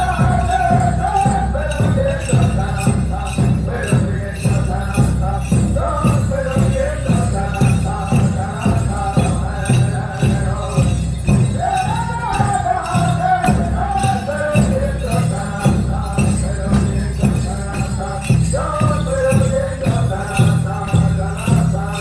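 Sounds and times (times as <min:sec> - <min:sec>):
high singing: 0:00.0 - 0:22.0
steady drum beat: 0:00.0 - 0:22.0.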